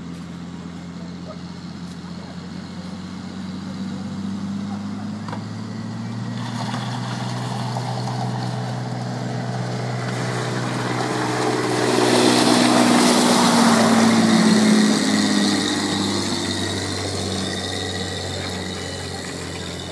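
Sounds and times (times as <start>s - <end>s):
amphibious vehicle engine: 0.0s - 19.9s.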